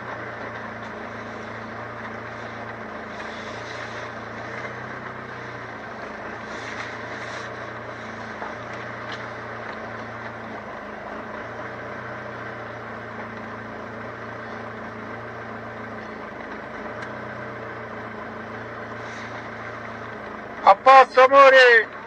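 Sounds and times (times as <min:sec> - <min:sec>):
van engine running at low revs: 0:00.0 - 0:22.0.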